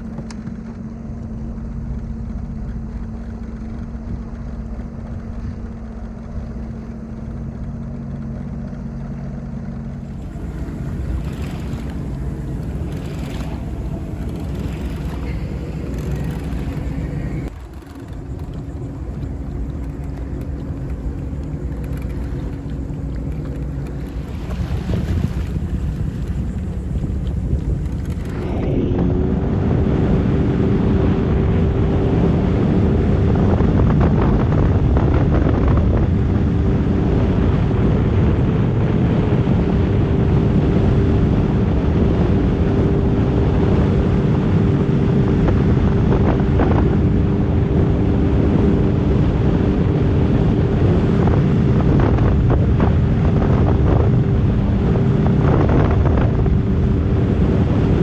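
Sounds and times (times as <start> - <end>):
water rushing along hull: 0.0 - 58.0
watercraft engine humming: 0.0 - 58.0
wind buffeting microphone: 0.0 - 58.0.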